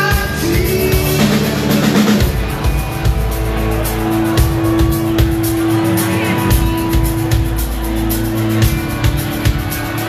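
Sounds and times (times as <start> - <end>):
drums keeping a steady beat: 0.0 - 10.0
electric bass: 0.0 - 10.0
electric guitars: 0.0 - 10.0.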